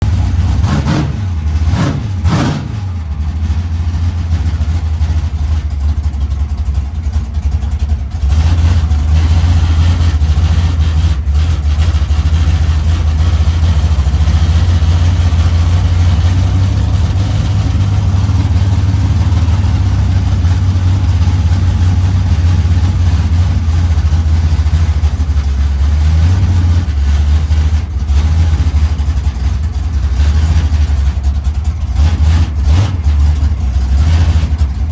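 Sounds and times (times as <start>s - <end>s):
drag car engine rumbling: 0.0s - 34.9s.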